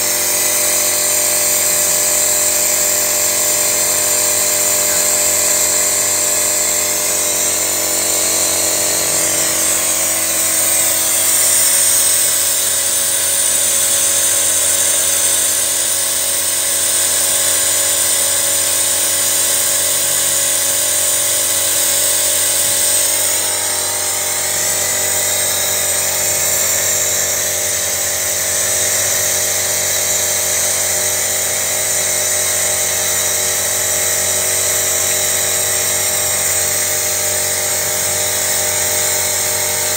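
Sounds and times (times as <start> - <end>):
machine high-pitched whine: 0.0 - 39.9.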